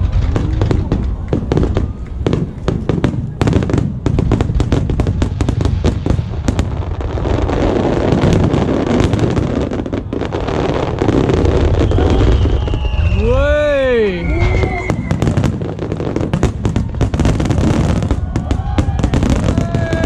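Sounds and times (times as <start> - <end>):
fireworks crackling: 0.0 - 20.0
fireworks deep booms: 0.0 - 20.0.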